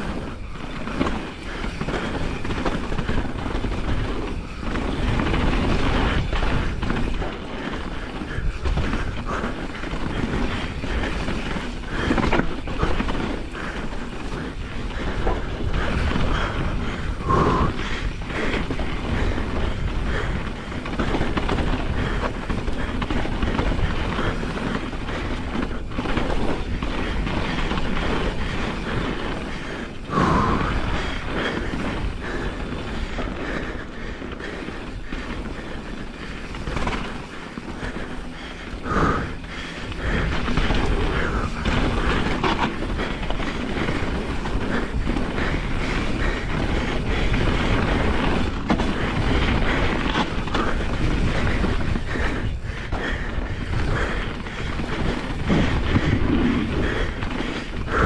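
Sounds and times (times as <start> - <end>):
bike tyres rattling on rough ground: 0.0 - 58.0
wind on microphone: 0.0 - 58.0.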